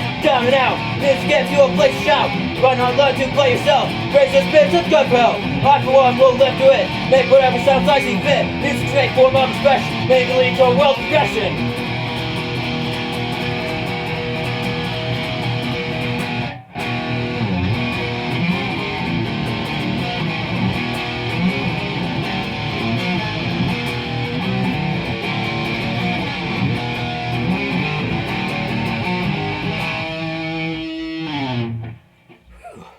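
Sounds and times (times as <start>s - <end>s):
punk rock strummed guitars: 0.0s - 32.0s.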